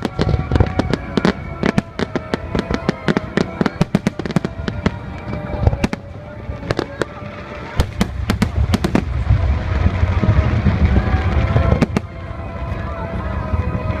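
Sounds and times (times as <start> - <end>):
faint music: 0.0 - 14.0
faint voices: 0.0 - 14.0
fireworks cracking and banging: 0.0 - 14.0
low rumble: 0.0 - 14.0.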